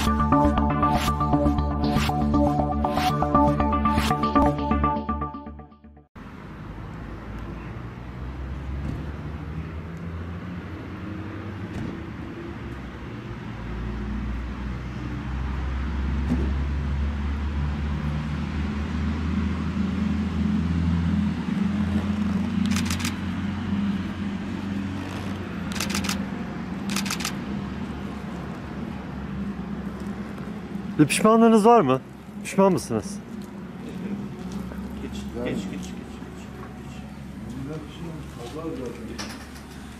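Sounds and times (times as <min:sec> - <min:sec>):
traffic noise: 0:00.0 - 0:04.7, 0:06.2 - 0:39.9.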